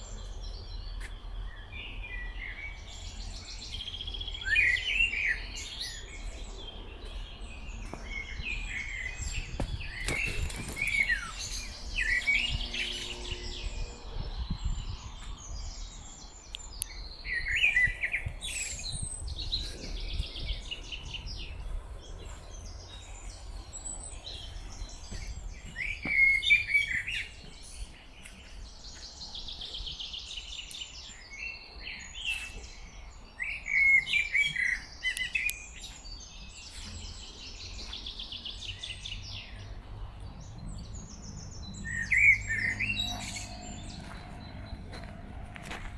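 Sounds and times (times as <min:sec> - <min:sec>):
bird chirps: 0:00.0 - 0:45.2
songbirds singing: 0:00.0 - 0:45.9.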